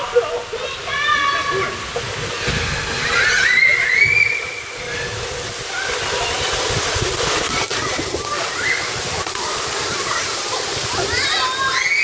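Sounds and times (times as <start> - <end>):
water rushing and sloshing: 0.0 - 12.0.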